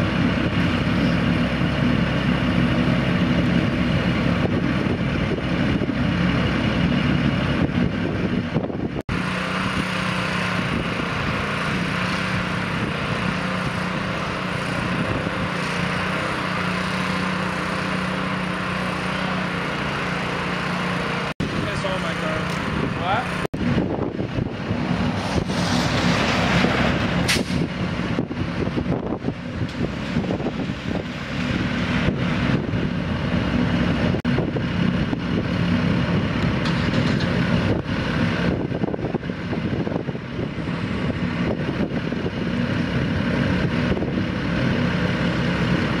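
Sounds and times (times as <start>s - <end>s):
engines idling: 0.0s - 46.0s.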